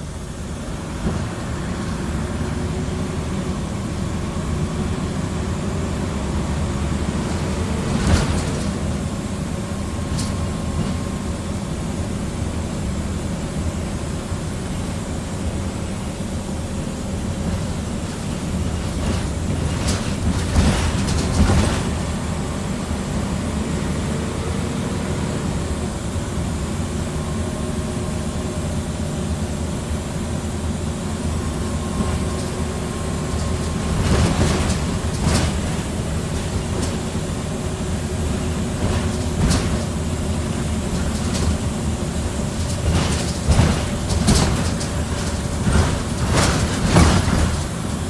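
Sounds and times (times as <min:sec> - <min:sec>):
bus body rattling: 0:00.0 - 0:48.0
bus diesel engine droning: 0:00.0 - 0:48.0.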